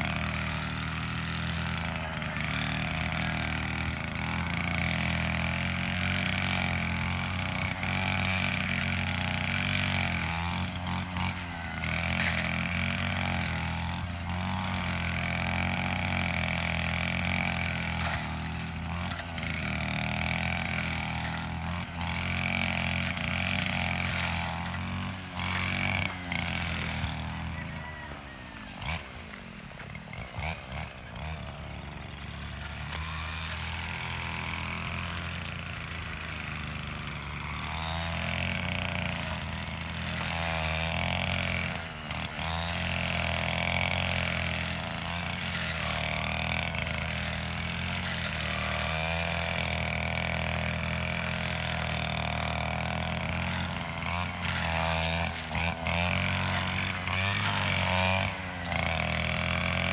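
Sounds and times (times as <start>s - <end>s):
brush cutter engine: 0.0s - 59.9s.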